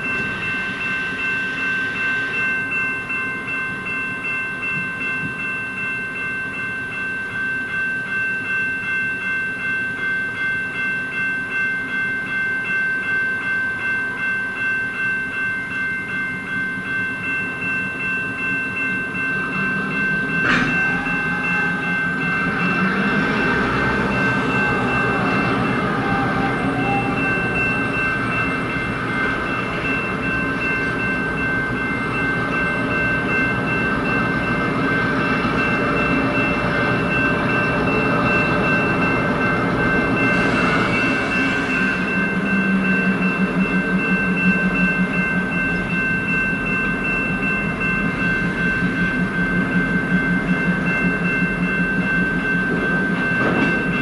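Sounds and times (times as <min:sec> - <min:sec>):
freight train rumbling past: 0:00.0 - 0:54.0
level crossing bell ringing: 0:00.0 - 0:54.0.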